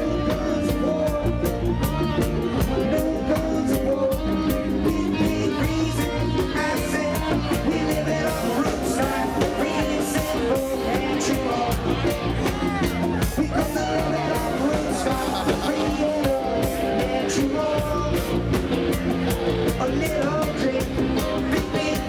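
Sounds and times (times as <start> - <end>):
reggae band playing: 0.0 - 22.0.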